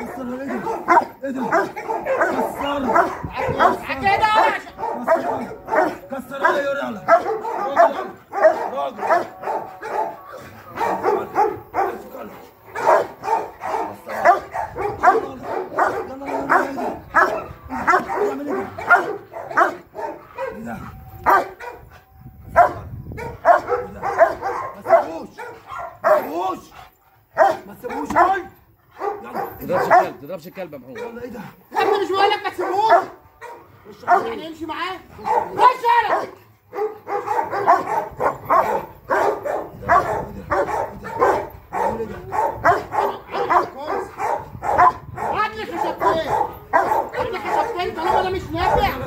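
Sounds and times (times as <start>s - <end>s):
dog barking fast: 0.0s - 20.6s, 21.2s - 21.9s, 22.6s - 26.7s, 27.3s - 30.2s, 31.0s - 49.0s.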